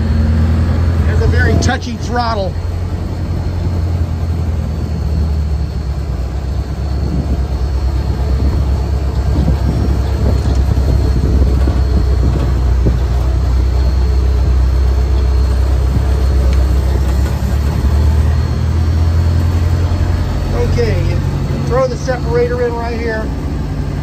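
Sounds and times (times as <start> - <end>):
combine engine drone: 0.0 - 24.0
faint high whine: 0.0 - 24.0
rattling and clatter: 1.0 - 22.1.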